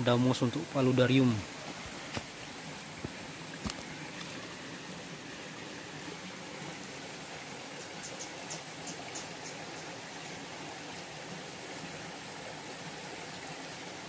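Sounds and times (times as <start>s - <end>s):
small stream running: 0.0s - 14.0s.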